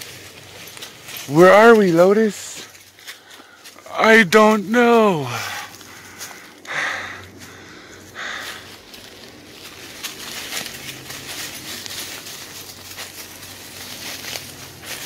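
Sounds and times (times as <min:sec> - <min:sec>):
footsteps through dry leaves: 0:00.0 - 0:15.0
twigs crackling and rustling: 0:00.0 - 0:15.0.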